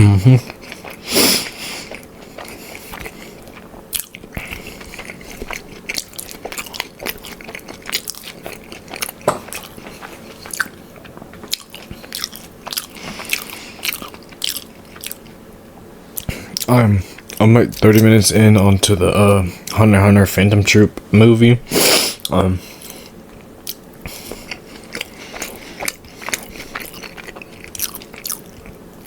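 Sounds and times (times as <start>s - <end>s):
person chewing crunchy food: 0.0s - 15.5s, 16.1s - 18.7s, 21.8s - 29.0s.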